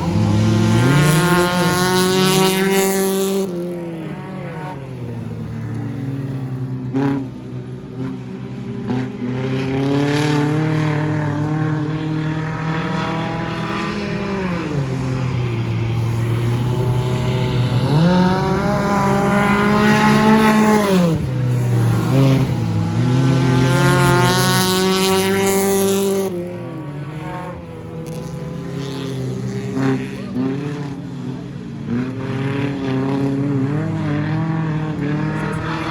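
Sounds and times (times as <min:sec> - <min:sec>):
race car engines revving past: 0:00.0 - 0:35.9.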